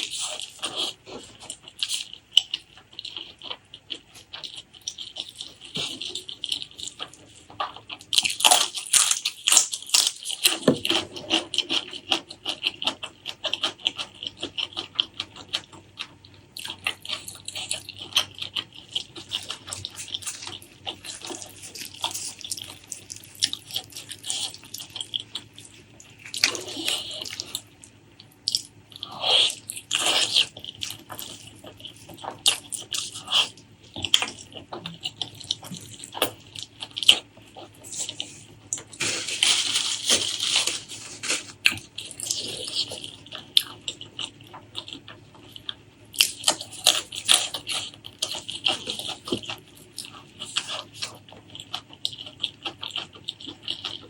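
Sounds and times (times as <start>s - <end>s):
wet chewing and mouth smacks: 0.0s - 54.0s.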